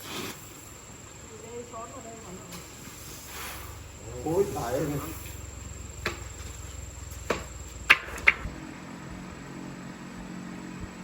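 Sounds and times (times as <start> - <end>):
steady low hum: 0.4 - 11.0.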